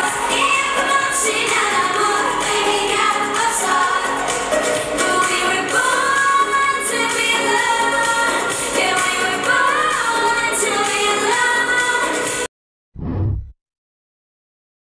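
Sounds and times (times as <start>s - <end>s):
pop song with female singing: 0.0s - 12.5s.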